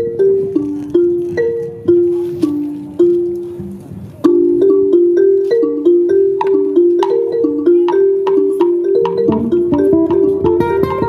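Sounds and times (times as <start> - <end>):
wooden xylophone notes: 0.0 - 11.0.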